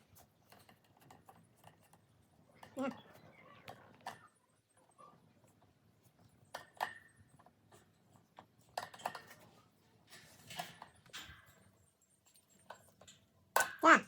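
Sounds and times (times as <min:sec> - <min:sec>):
fan parts clicking and knocking: 0:00.0 - 0:04.2, 0:05.4 - 0:14.0.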